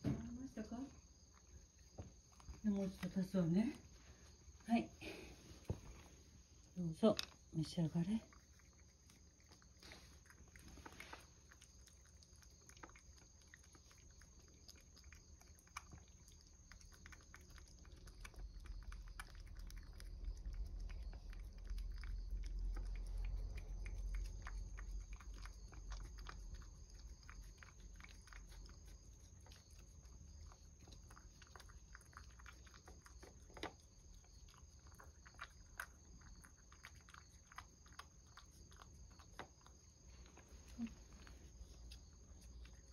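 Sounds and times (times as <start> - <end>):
cat licking wet paste: 8.2 - 42.9.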